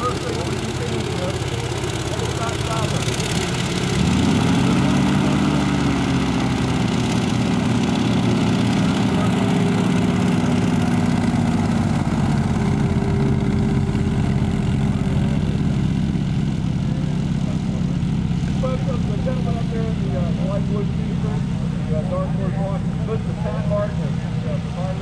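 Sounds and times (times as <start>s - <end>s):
hovercraft engine and fan running: 0.0s - 25.0s.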